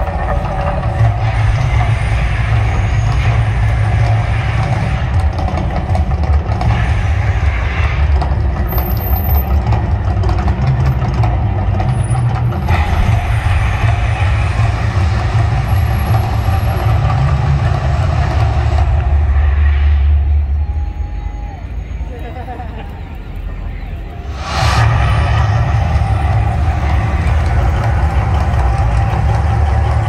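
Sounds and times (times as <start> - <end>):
deep continuous rumble: 0.0 - 30.0.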